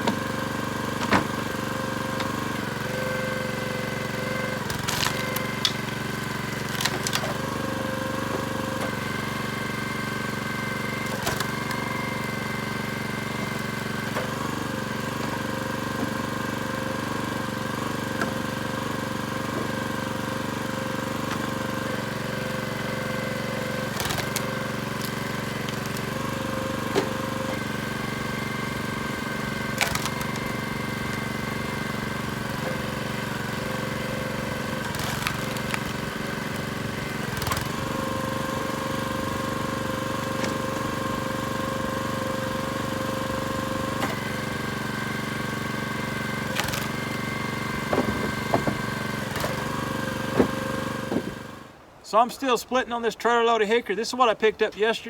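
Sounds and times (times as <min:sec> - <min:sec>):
wood cracking as it splits: 0:00.0 - 0:03.2, 0:04.3 - 0:51.7
log splitter gas engine running: 0:00.0 - 0:55.0.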